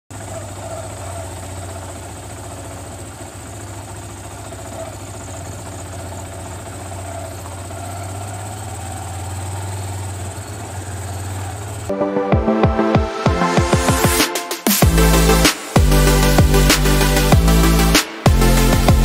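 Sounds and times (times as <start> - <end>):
motorcycle engine running: 0.1 - 19.0.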